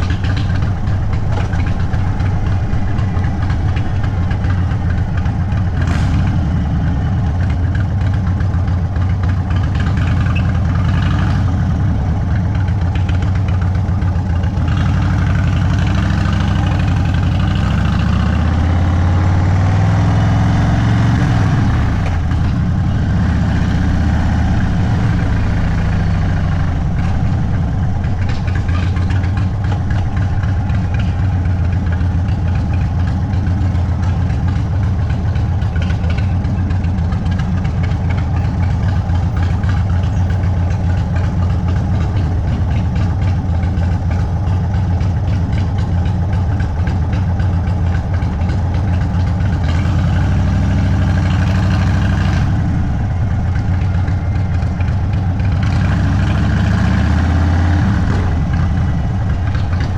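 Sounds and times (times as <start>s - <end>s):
motorcycle engine slowing and idling: 0.0s - 59.9s.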